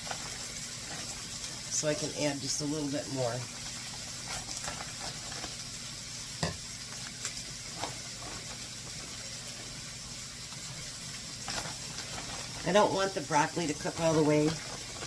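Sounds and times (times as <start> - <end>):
food sizzling in butter: 0.0 - 15.0.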